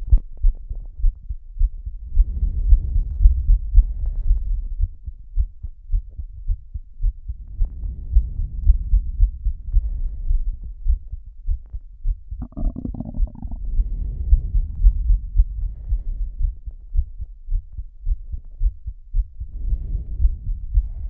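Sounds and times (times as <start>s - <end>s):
heartbeat thumps: 0.0s - 21.0s.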